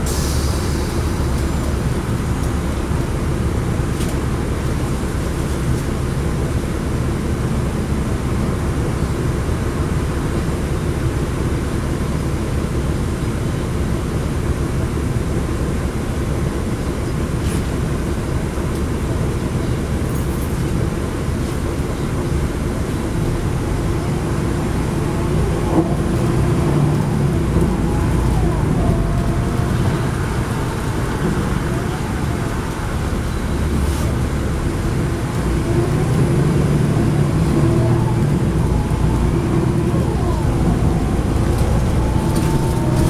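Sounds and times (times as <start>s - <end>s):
bus diesel engine running: 0.0s - 43.0s
tyre and road noise: 0.0s - 43.0s.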